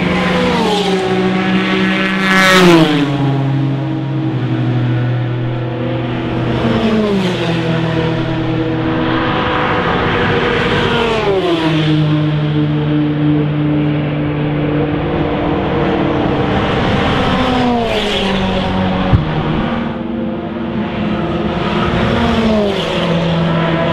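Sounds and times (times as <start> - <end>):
race car engines at high revs: 0.0 - 23.9.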